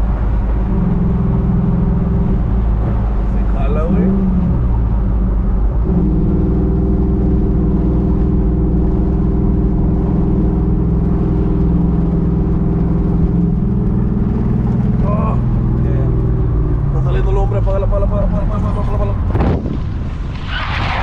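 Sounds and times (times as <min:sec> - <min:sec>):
car engine running steadily: 0:00.0 - 0:20.4.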